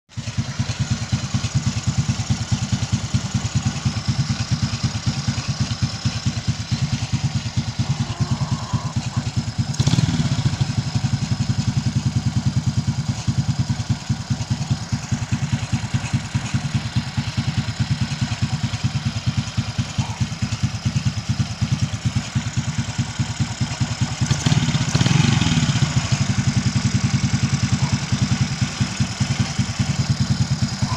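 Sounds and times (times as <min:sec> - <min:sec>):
motorcycle engine idling and revving: 0:00.1 - 0:30.9.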